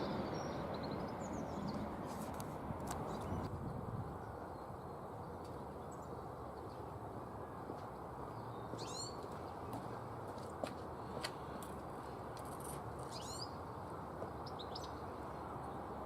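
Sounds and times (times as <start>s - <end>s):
birds chirping: 0.0s - 10.1s, 13.1s - 16.0s.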